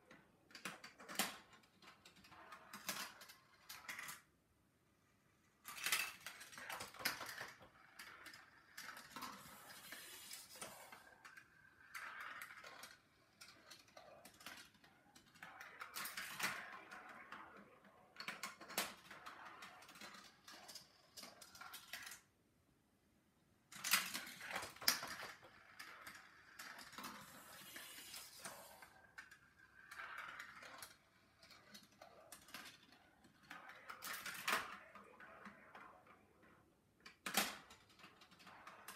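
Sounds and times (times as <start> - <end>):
marbles rattling along plastic track: 0.5 - 4.3, 5.6 - 22.3, 23.7 - 38.9.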